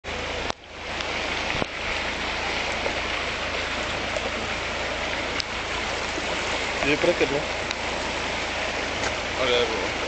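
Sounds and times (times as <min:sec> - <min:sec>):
river rushing: 0:00.1 - 0:10.0.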